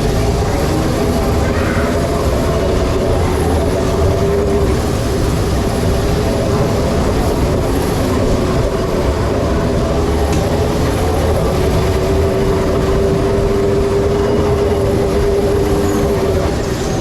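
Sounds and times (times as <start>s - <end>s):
moving vehicle rumble: 0.0s - 17.0s.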